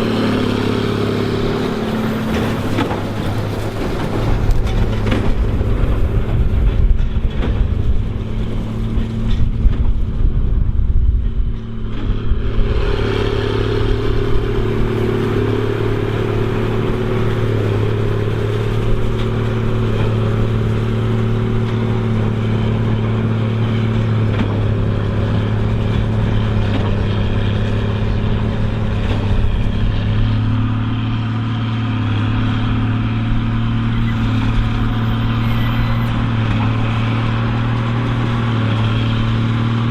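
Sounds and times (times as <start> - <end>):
low buffeting: 0.0 - 39.9
tractor diesel engine running: 0.0 - 39.9.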